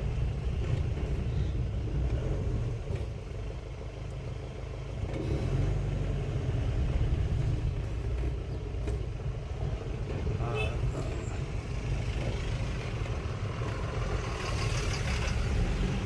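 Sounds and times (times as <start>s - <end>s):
road vehicle rumble in traffic: 0.0s - 16.0s.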